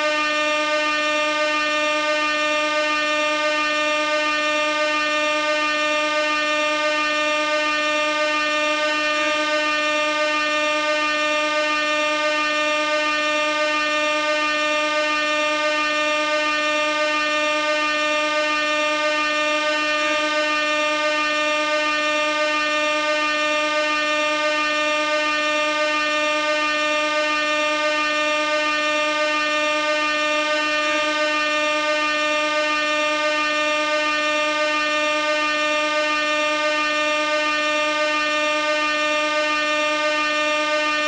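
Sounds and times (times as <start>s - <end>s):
air horn blast: 0.0s - 41.0s.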